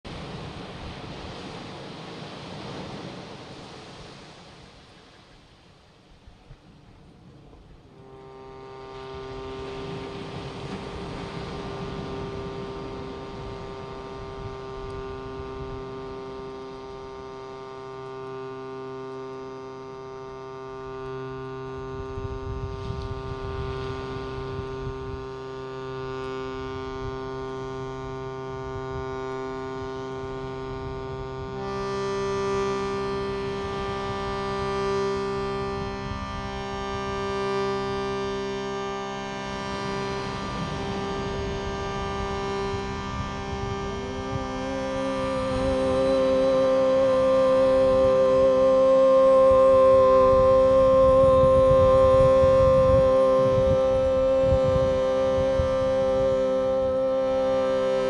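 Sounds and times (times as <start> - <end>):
shruti box drone: 0.0 - 58.0.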